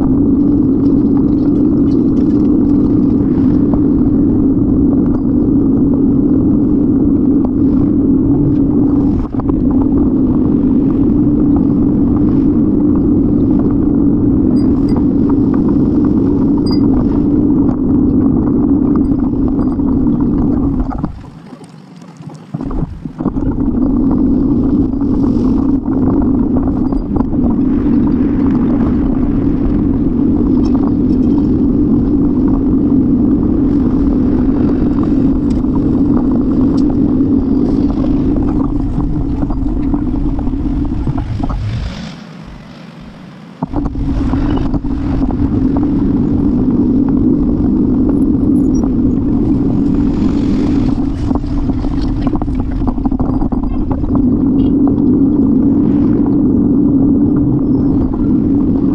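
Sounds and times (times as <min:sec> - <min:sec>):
wind and road noise: 0:00.0 - 0:58.9.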